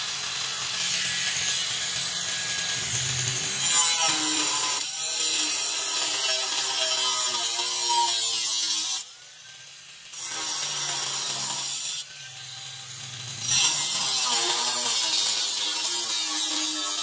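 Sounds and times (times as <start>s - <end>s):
angle grinder cutting steel: 0.0s - 17.0s.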